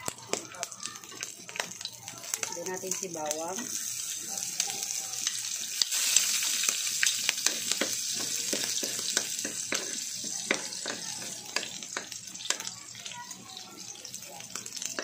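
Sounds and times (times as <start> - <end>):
garlic sizzling in a wok: 0.0 - 15.0.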